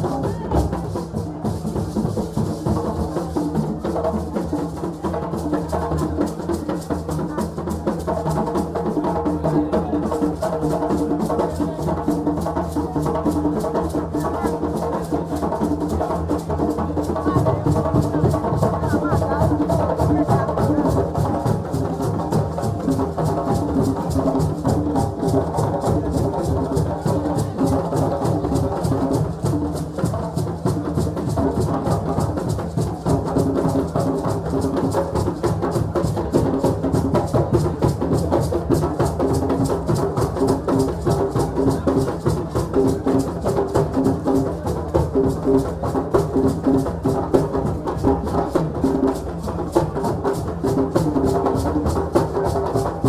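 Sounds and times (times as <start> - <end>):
hand drumming ensemble: 0.0 - 53.0.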